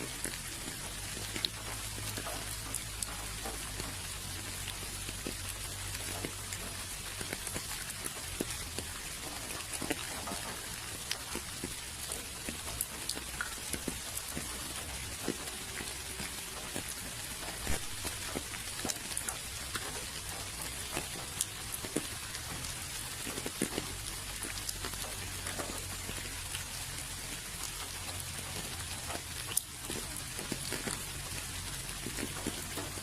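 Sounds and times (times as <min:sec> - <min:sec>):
rain hissing: 0:00.0 - 0:33.0
raindrops ticking on a surface: 0:00.0 - 0:33.0.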